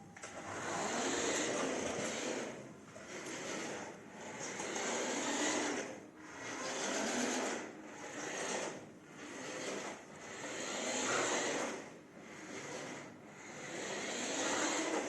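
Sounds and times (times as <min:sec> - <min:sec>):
toy electric motor whirring: 0:00.4 - 0:15.0.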